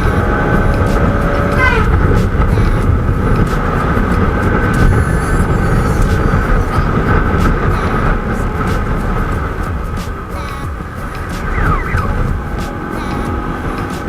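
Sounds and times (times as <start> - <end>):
motorcycle engine drone: 0.0 - 14.0
wind buffeting microphone: 0.0 - 14.0.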